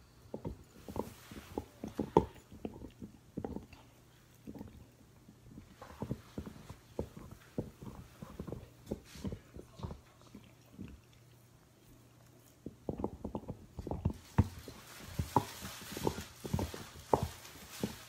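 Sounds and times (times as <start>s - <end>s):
dog chewing and licking: 0.0s - 18.0s
wet clicks and knocks: 0.3s - 11.4s, 12.1s - 18.0s.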